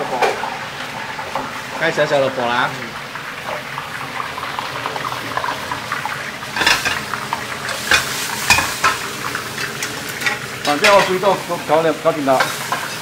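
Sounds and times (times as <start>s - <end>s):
hot oil bubbling and crackling: 0.0s - 13.0s
sizzling stir-fry: 0.0s - 13.0s.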